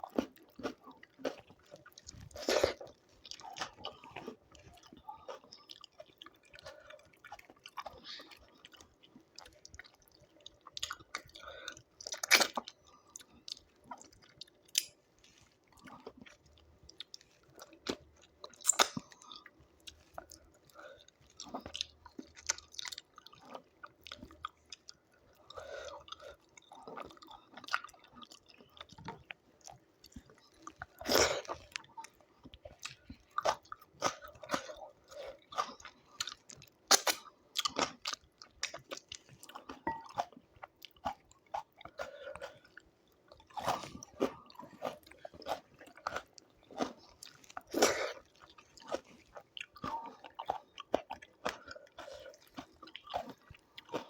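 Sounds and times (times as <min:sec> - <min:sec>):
wet chewing and smacking: 0:00.0 - 0:54.0.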